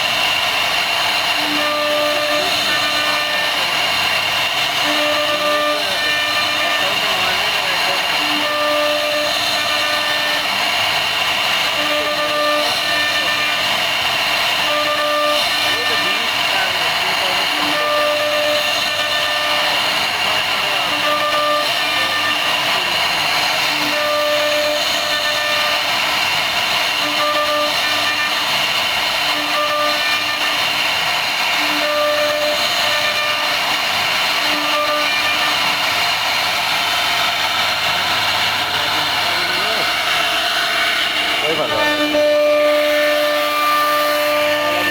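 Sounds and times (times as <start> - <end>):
router spindle whine: 0.0 - 44.9.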